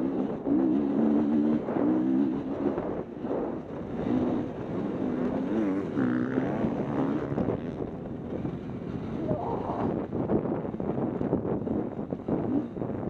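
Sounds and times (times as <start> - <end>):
motorbike engine revving: 0.0 - 13.0
wind noise on microphone: 0.0 - 13.0.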